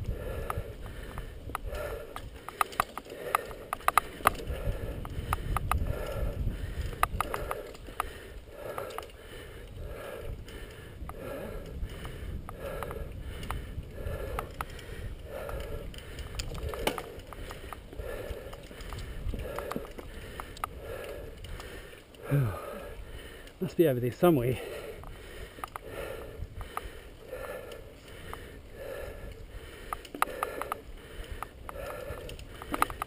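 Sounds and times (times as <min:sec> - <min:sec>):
bike rattling clicks: 0:00.0 - 0:33.0
person breathing hard: 0:00.0 - 0:33.0
tyres rumbling on trail: 0:00.0 - 0:33.0
wind: 0:00.0 - 0:33.0.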